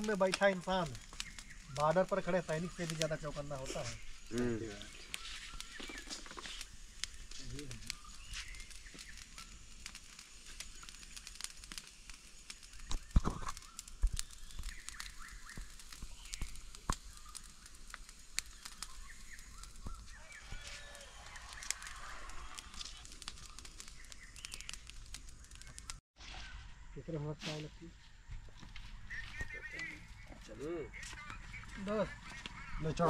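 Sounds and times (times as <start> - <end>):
wood fire crackling and popping: 0.0 - 26.0, 28.5 - 33.0.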